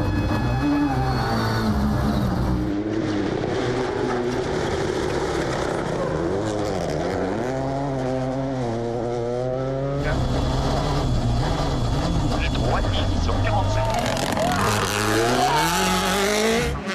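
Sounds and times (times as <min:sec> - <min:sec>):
rally car engine at high revs: 0:01.4 - 0:16.9.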